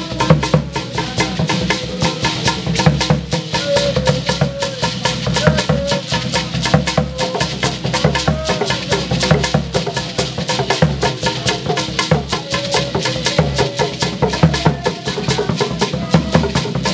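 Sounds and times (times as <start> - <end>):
barrel drum: 0.0 - 16.9.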